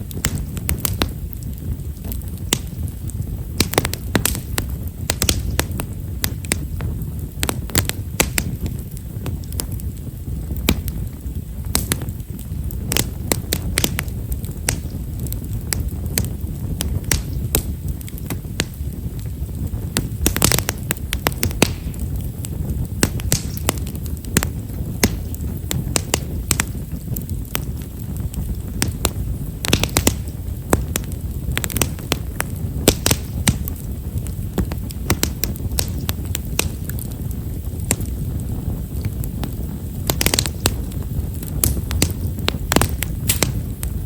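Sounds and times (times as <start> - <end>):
firewood crackling and popping: 0.0 - 44.0
steady low rumble: 0.0 - 44.0.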